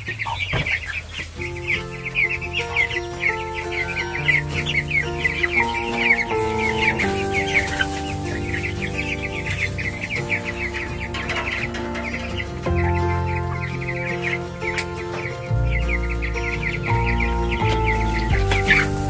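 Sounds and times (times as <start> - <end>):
background music with held notes: 0.0 - 19.0
chicks peeping: 0.0 - 19.0.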